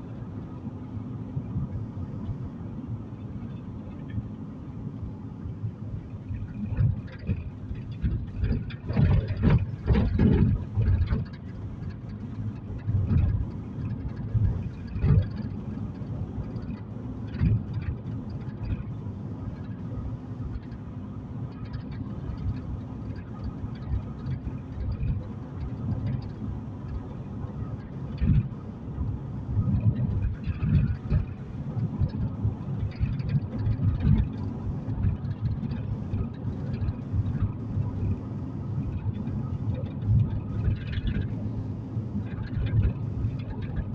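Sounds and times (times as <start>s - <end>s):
road and engine rumble in car: 0.0s - 43.9s.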